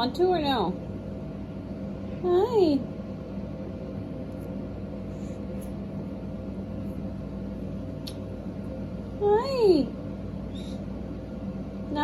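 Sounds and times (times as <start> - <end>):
low hum and hiss of room noise: 0.0 - 12.0.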